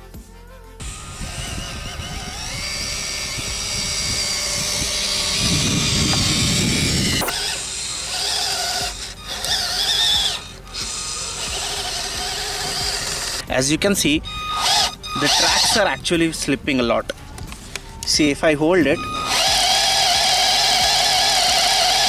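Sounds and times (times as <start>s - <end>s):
toy truck motor whining: 0.8s - 16.4s, 18.9s - 22.0s.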